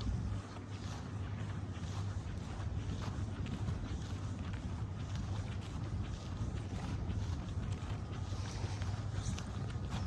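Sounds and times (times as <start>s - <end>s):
footsteps walking: 0.0s - 10.0s
steady low rumble: 0.0s - 10.0s.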